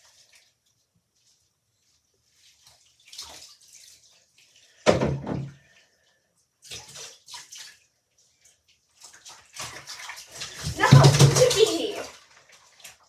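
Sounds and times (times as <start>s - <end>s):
bathwater splashing: 0.0s - 13.0s.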